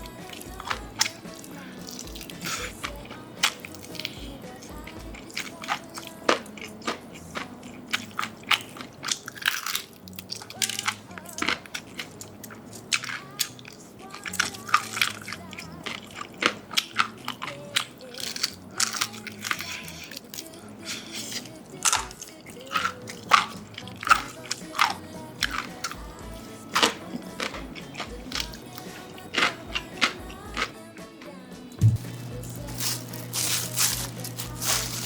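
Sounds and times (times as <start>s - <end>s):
crunchy chewing of fried chicken: 0.0s - 31.3s, 32.0s - 35.0s.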